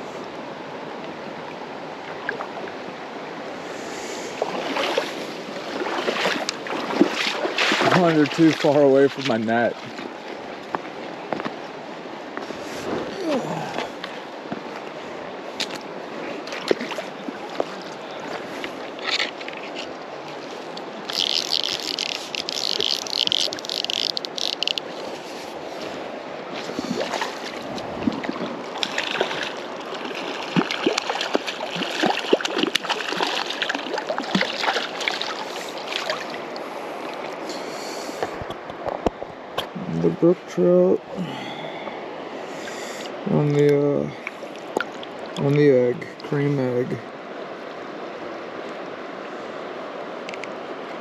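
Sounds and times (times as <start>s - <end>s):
creek water rushing: 0.0s - 51.0s.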